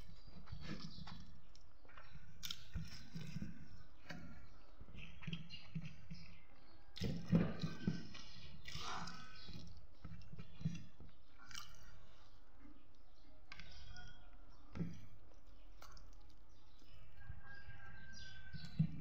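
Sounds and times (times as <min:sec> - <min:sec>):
close-up chewing: 0:00.0 - 0:19.0.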